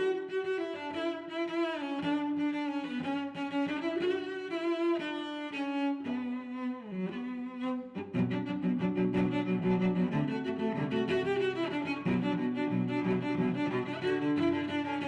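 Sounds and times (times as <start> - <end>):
bowed string music: 0.0 - 15.0.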